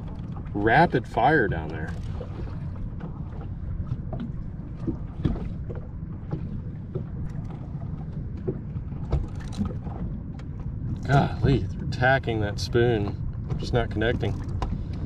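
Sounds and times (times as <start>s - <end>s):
water around a boat: 0.0s - 15.0s
wind on microphone: 0.0s - 15.0s.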